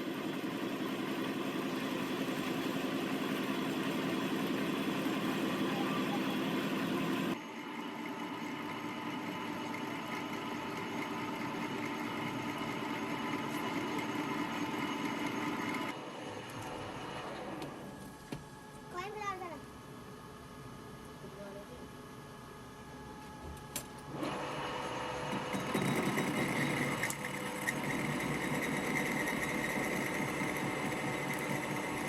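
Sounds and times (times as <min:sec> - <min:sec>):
workshop machine running: 0:00.0 - 0:32.0.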